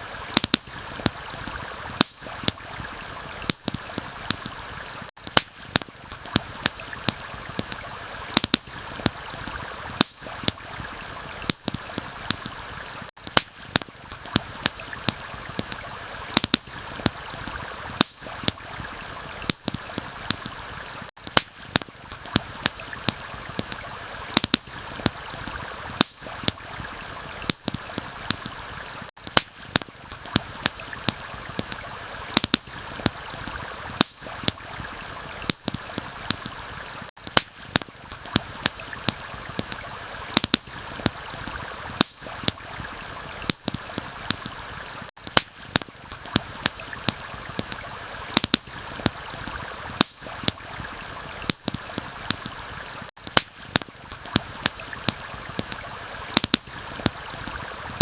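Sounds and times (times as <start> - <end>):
campfire crackling and popping: 0.0 - 58.0
stream flowing: 0.0 - 58.0.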